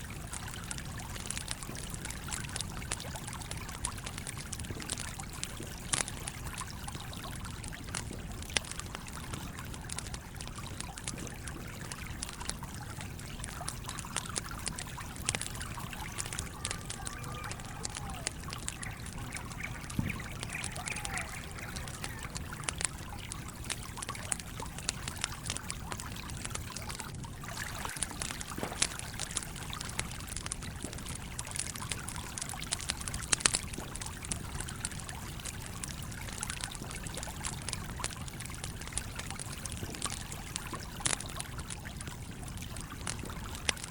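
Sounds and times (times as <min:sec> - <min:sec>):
campfire crackling: 0:00.0 - 0:43.9
stream flowing: 0:00.0 - 0:43.9.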